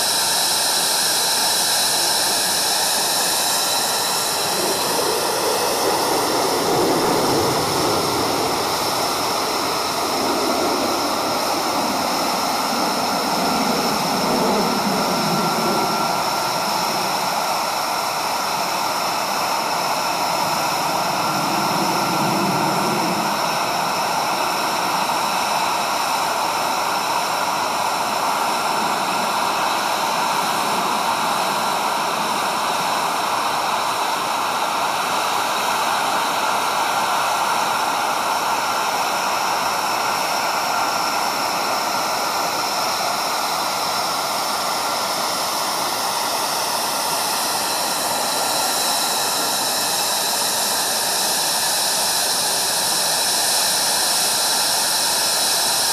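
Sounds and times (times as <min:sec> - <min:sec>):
fighter jet engines roaring overhead: 0:00.0 - 0:55.9.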